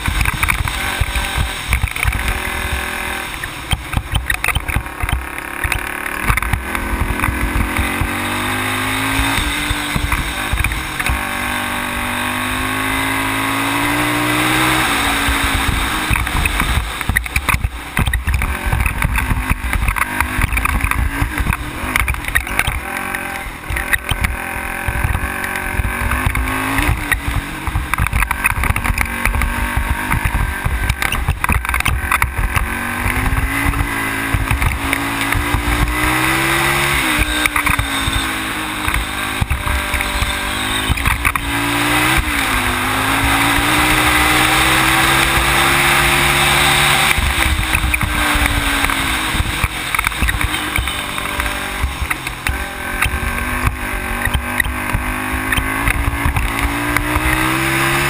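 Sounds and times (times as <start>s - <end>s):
atv engine accelerating: 0.0s - 58.0s
buffeting and rattling: 0.0s - 58.0s.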